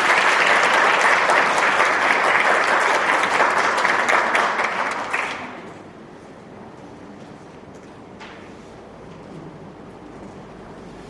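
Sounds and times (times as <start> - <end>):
hall room noise: 0.0 - 11.0.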